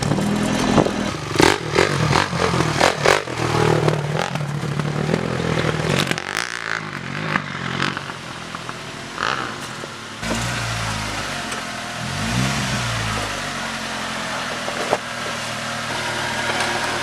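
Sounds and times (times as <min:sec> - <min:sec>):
vehicle clattering and knocking: 0:00.0 - 0:11.8, 0:13.0 - 0:17.0
vehicle engine on rough trail: 0:00.0 - 0:17.0.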